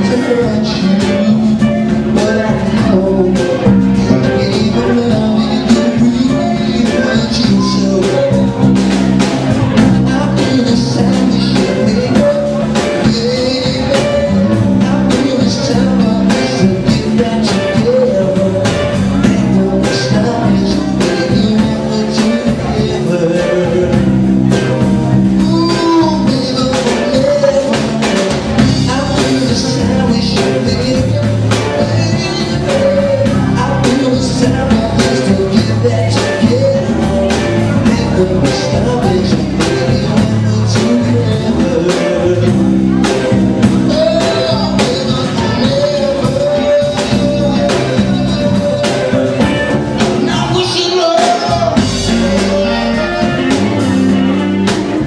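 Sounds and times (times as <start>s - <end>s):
drum kit beat: 0.0s - 55.0s
guitar: 0.0s - 55.0s
keyboard: 0.0s - 55.0s
person singing: 0.0s - 55.0s
saxophone: 0.0s - 55.0s.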